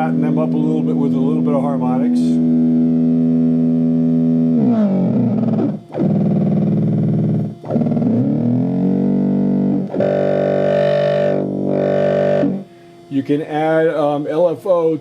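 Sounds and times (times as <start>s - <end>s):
synthesizer held tone: 0.0s - 13.8s.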